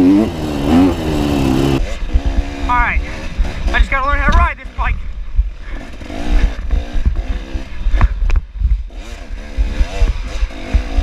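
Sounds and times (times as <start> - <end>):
dirt bike engine revving: 0.0 - 11.0
low rumble on microphone: 1.8 - 11.0.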